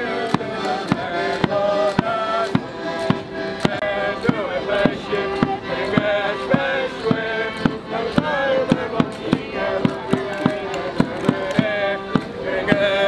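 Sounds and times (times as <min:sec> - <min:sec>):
sharp percussive beat: 0:00.2 - 0:13.0.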